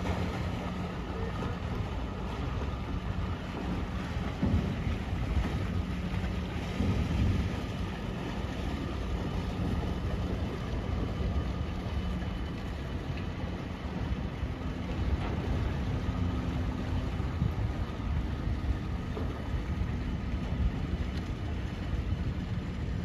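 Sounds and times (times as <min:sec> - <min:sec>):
ferry engines rumbling: 0:00.0 - 0:23.0
higher engine hum: 0:00.0 - 0:23.0.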